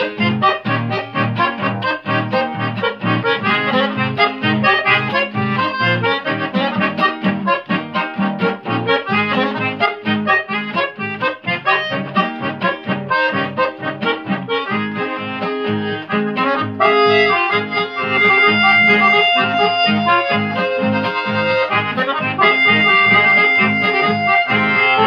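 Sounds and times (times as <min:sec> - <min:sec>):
accordion melody: 0:00.0 - 0:25.0.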